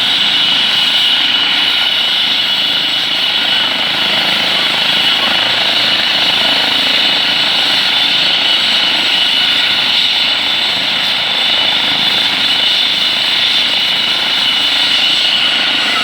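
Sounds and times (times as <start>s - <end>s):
helicopter engine and rotor noise: 0.0s - 16.0s.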